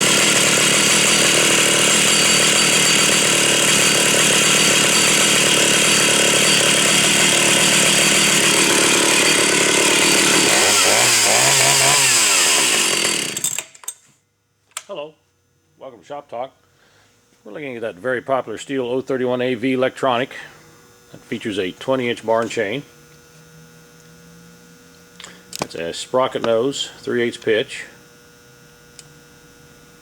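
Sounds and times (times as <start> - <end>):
chainsaw running at high revs: 0.0 - 13.7, 19.1 - 30.0.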